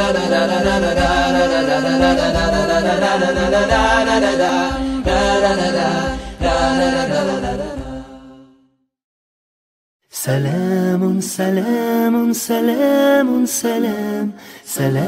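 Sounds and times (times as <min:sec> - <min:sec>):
a cappella chant-like singing: 0:00.0 - 0:08.8, 0:10.1 - 0:15.0.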